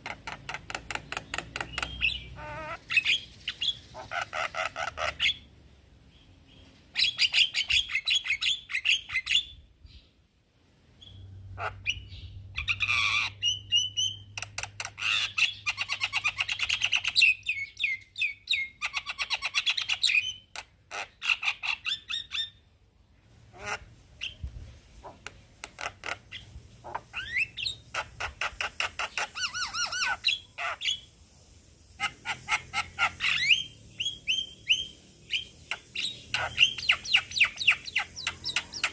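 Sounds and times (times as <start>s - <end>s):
bird chattering and squawking: 0.0s - 5.5s, 6.9s - 9.5s, 11.5s - 22.6s, 23.5s - 31.1s, 31.8s - 38.9s.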